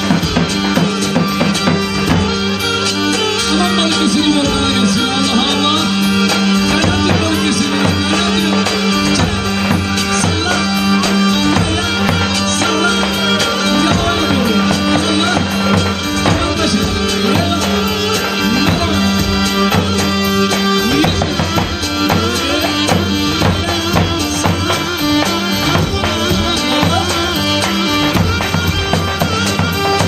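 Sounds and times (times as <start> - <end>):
droning melody: 0.0 - 30.0
drum beating steady rhythm: 0.0 - 30.0.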